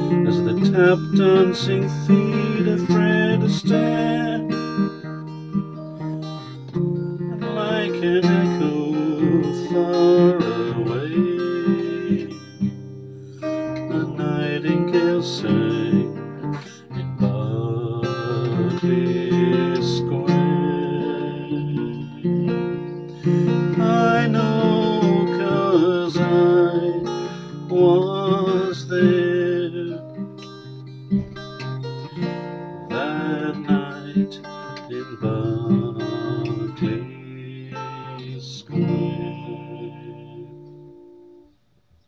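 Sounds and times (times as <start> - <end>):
man singing: 0.0 - 5.1, 7.3 - 12.6, 13.7 - 30.2, 32.8 - 40.7
acoustic guitar playing: 0.0 - 41.8.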